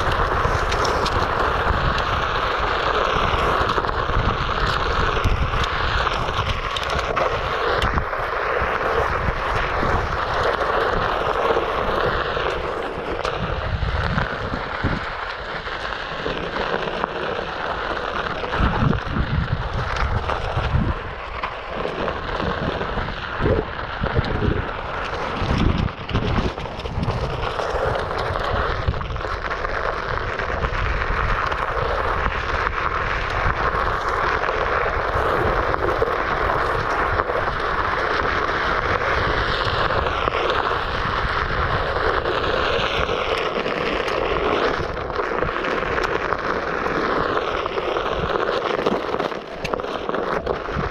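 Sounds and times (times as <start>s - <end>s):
wind over microphone: 0.0s - 50.9s.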